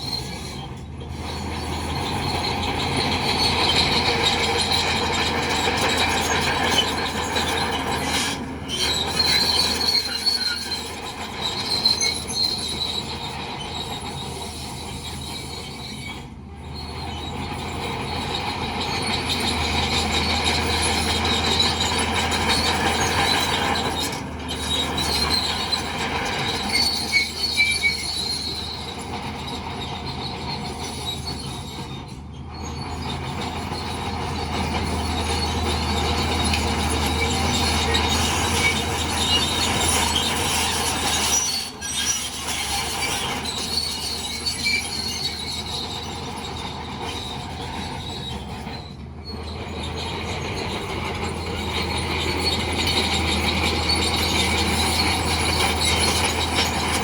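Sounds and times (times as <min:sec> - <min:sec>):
diesel engine drone: 0:00.0 - 0:57.0
steel tracks squealing and grinding: 0:00.0 - 0:57.0.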